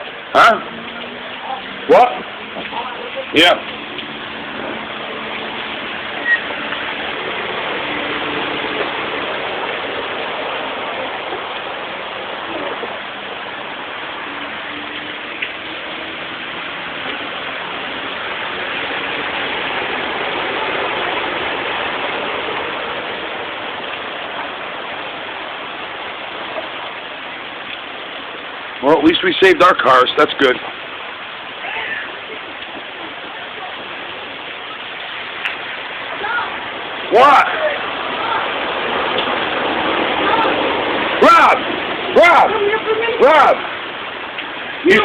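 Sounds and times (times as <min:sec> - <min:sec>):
heavy rain pouring: 0:00.0 - 0:45.0
rushing floodwater: 0:00.0 - 0:45.0.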